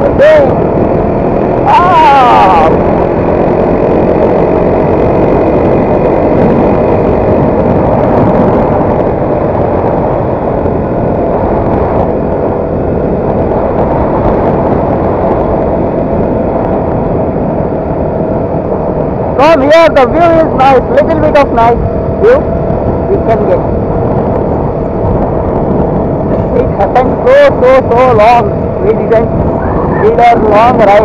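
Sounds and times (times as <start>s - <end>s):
heavy wind noise: 0.0s - 31.0s
motorcycle engine running: 0.0s - 31.0s.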